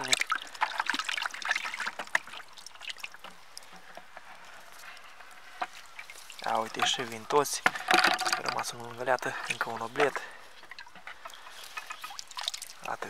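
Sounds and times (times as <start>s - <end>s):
water tipped into river: 0.0s - 3.8s, 5.6s - 13.0s
fish splashing in bucket: 0.0s - 13.0s
water trickling: 0.0s - 13.0s.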